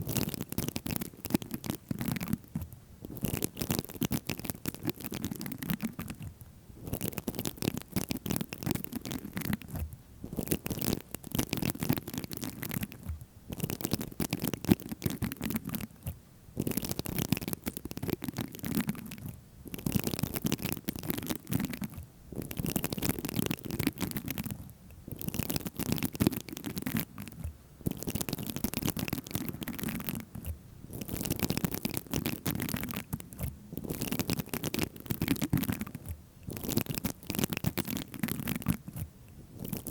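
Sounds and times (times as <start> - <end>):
scratching and tapping on object: 0.0 - 39.9.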